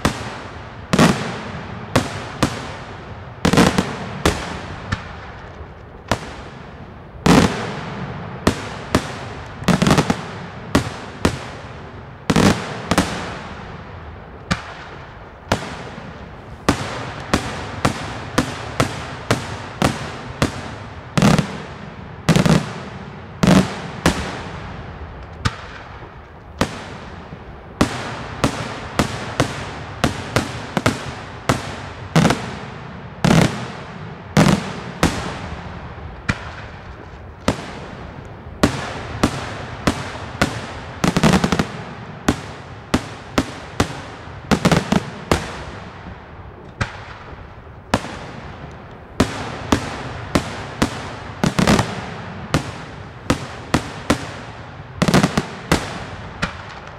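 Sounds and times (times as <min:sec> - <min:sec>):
fireworks bangs with echo: 0:00.0 - 0:56.9.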